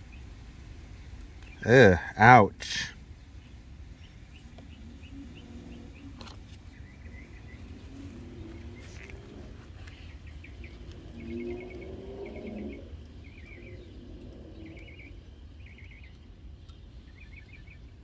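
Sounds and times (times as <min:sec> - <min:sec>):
lower warbling bird calls: 0:01.4 - 0:18.0
high bird chirps: 0:03.4 - 0:17.9.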